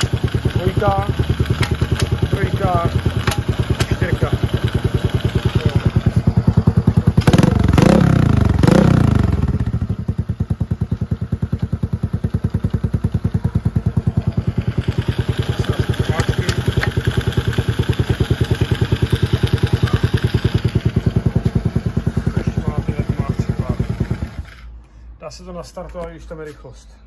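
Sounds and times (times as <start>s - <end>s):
engine revving: 0.0s - 10.8s, 13.7s - 24.7s
dirt bike engine idling: 0.0s - 24.8s.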